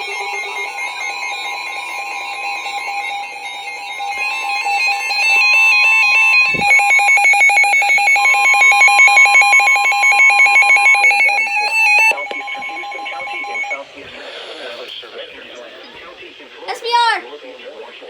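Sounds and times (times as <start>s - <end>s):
emergency alert tone: 0.0s - 14.6s.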